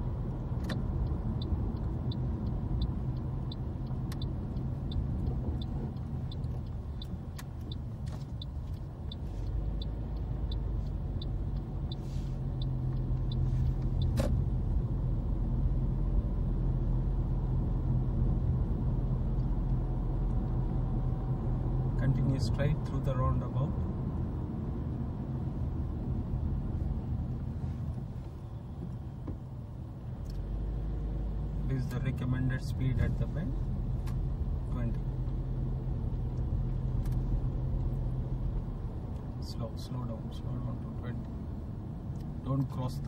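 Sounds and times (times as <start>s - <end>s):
car turn indicator ticking: 0.0s - 23.4s, 25.7s - 43.0s
engine and road rumble: 0.0s - 43.0s.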